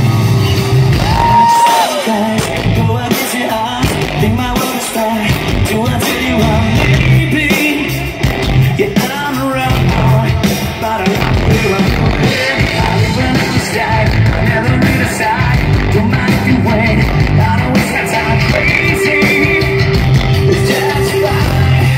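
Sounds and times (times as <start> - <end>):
bass guitar: 0.0 - 21.9
drums: 0.0 - 21.9
electric guitars: 0.0 - 21.9
person singing: 0.9 - 21.9.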